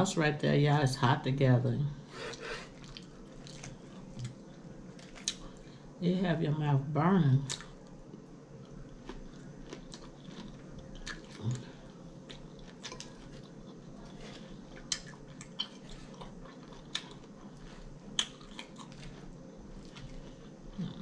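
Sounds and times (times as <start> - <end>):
faint steady hum: 0.0 - 21.0
chewing lettuce: 2.3 - 5.7, 7.4 - 21.0.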